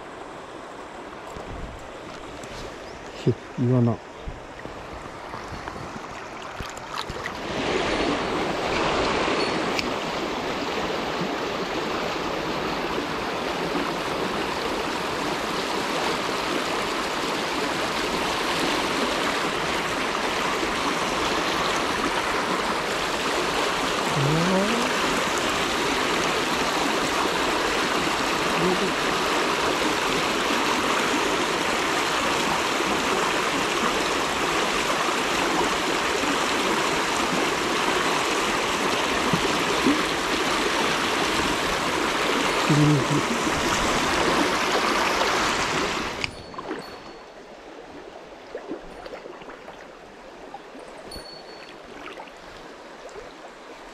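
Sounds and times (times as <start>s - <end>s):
stream rushing over rock: 0.0s - 53.9s.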